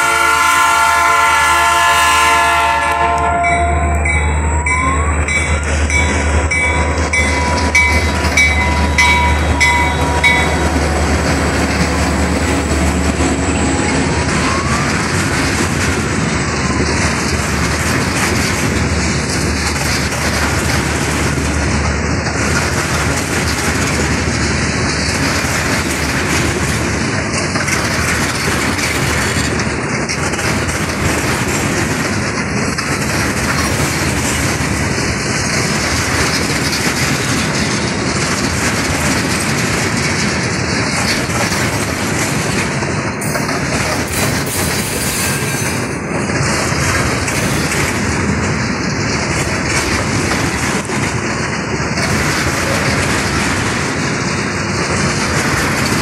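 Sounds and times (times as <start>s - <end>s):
diesel locomotive engine hum: 0.0s - 56.0s
train wheels clickety-clack: 0.0s - 56.0s.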